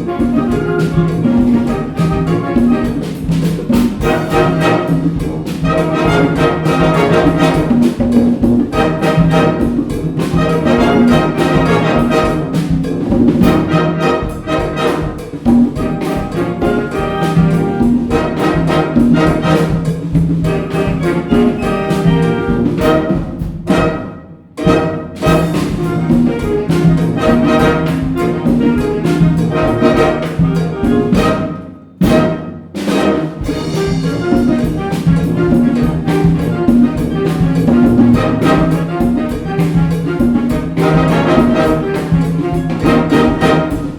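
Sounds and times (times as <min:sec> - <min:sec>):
brass section playing: 0:00.0 - 0:43.9
rhythmic percussion beat: 0:00.0 - 0:43.9.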